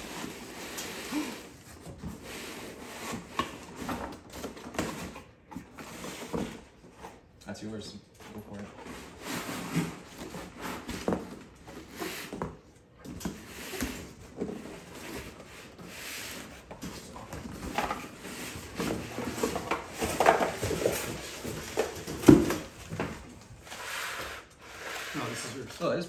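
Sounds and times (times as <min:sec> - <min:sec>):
box and packing rustling: 0:00.0 - 0:07.4, 0:08.2 - 0:26.0.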